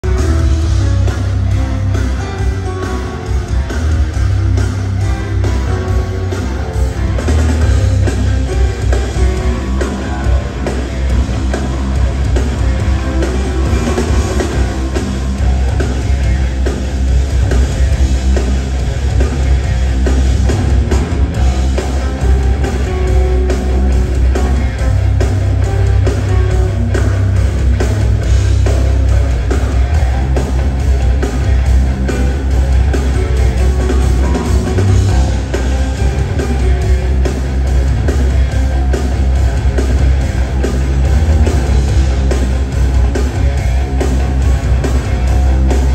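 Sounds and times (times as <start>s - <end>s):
rock band playing: 0.0s - 45.9s.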